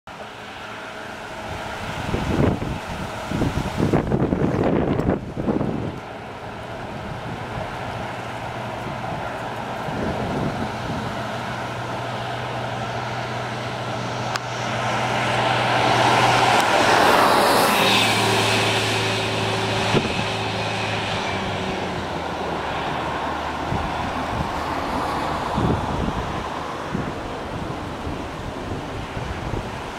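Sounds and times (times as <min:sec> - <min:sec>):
bus passing by: 0:00.1 - 0:29.9.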